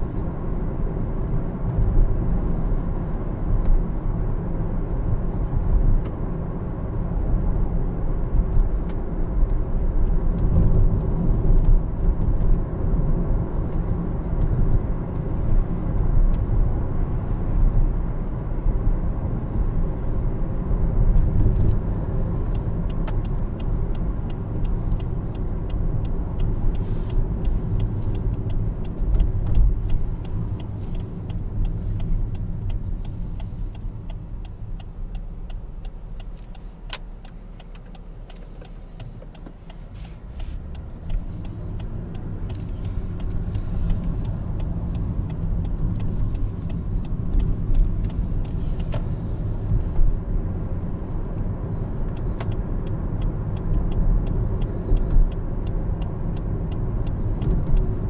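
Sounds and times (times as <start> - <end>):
engine and tyre rumble in car: 0.0 - 58.0.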